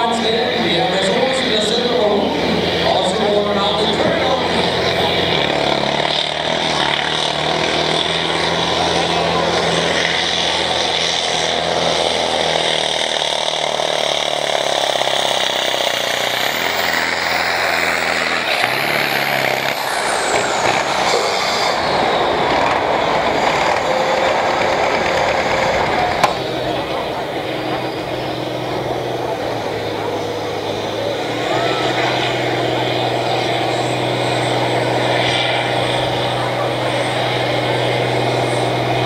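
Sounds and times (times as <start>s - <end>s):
tractor diesel engine under load: 0.0s - 39.0s.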